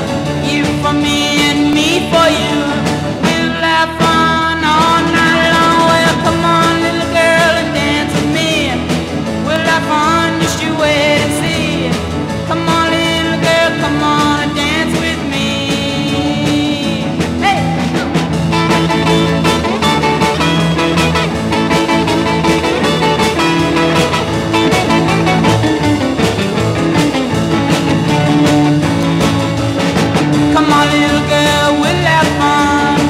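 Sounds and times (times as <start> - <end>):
song with singing and guitar: 0.0 - 33.0.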